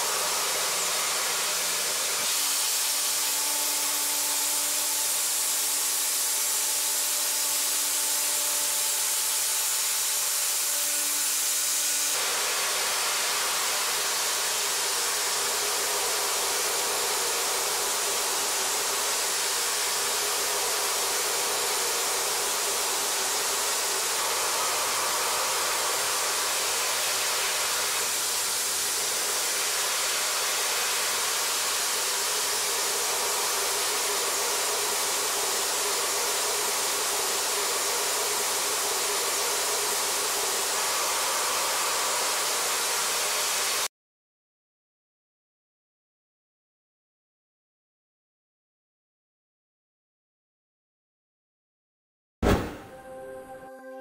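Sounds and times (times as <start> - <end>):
milling machine hiss: 0.0 - 43.9.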